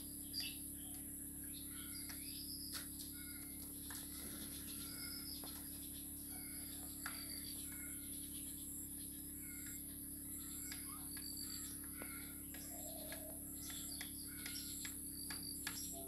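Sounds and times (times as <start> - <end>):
birds chirping: 0.0 - 16.0
steady hum: 0.0 - 16.0.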